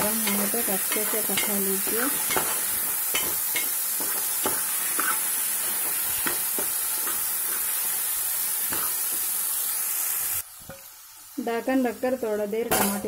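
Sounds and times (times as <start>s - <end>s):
frying hiss: 0.0s - 13.0s.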